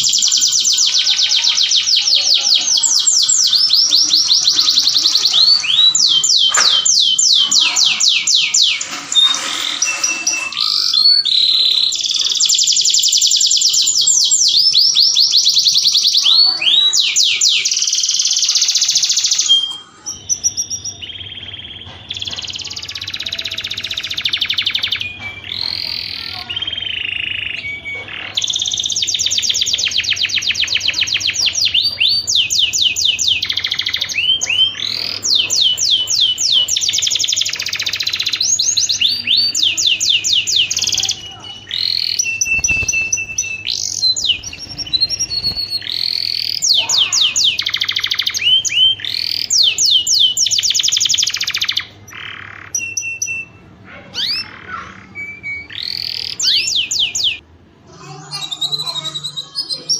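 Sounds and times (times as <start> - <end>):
canary singing trills: 0.0 - 57.4, 58.0 - 59.9.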